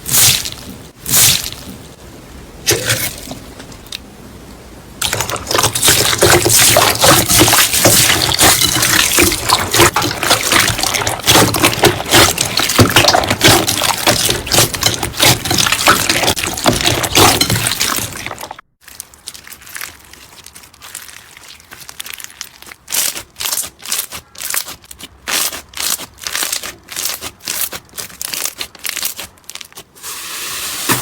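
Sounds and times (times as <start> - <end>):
slime popping and crackling: 5.0 - 30.0.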